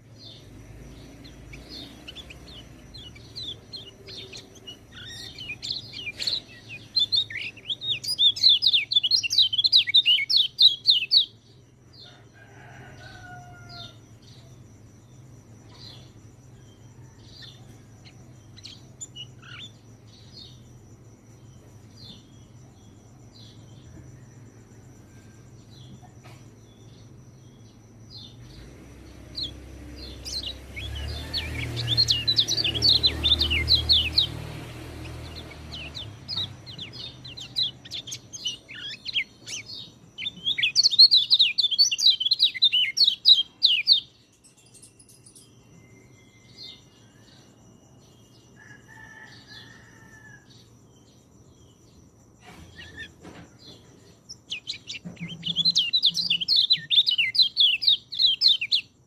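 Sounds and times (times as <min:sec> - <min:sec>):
bird twittering chirps: 0:00.0 - 0:12.1, 0:13.2 - 0:24.0, 0:25.6 - 0:48.2, 0:52.4 - 0:59.0.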